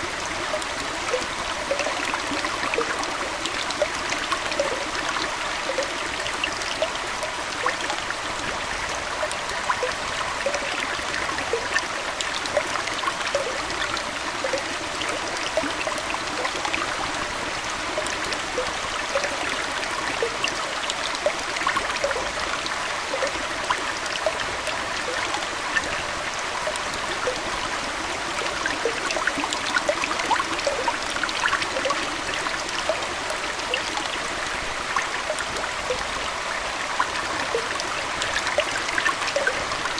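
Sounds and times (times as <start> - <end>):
aquarium water trickling: 0.0 - 39.9
water drips and plinks: 0.0 - 39.9.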